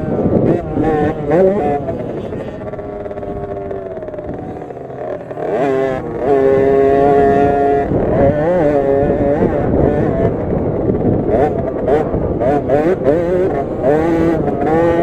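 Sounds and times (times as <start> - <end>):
two-stroke minibike engine revving: 0.0 - 15.0.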